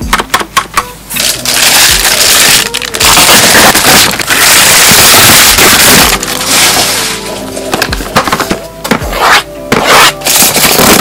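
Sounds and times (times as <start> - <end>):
plastic mailer tearing and crinkling: 1.1 - 11.0.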